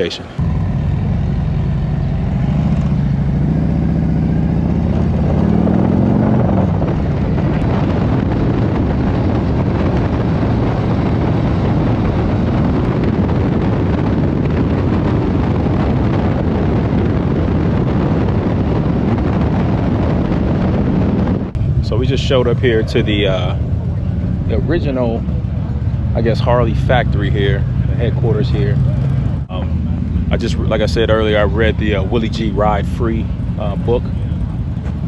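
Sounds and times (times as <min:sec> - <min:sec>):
motorcycle engine: 0:00.0 - 0:35.0
wind and road noise: 0:00.0 - 0:35.0.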